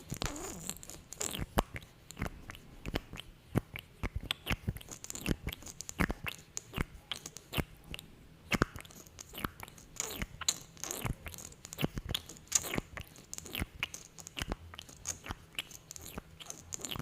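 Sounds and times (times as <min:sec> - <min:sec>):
wet lip smacks and pops: 0:00.0 - 0:17.0.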